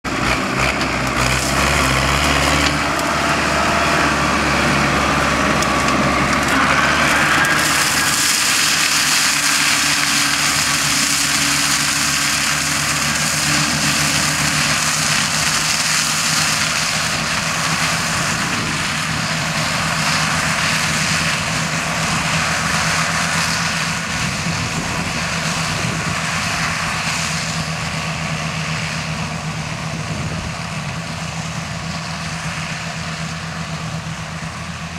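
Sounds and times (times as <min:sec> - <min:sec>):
mulcher shredding stalks: 0:00.0 - 0:34.9
tractor diesel engine running: 0:00.0 - 0:34.9.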